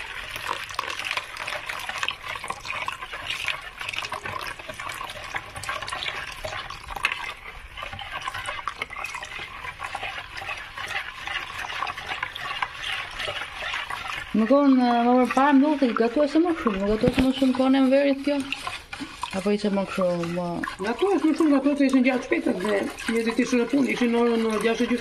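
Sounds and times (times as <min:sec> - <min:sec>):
whisk sloshing batter: 0:00.0 - 0:25.0
whisk ticking against bowl: 0:00.0 - 0:25.0.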